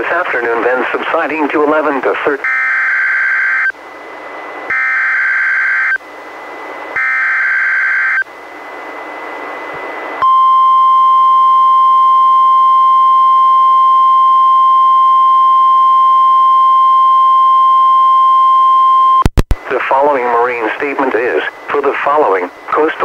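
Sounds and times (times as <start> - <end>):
receiver hiss: 0.0 - 23.0.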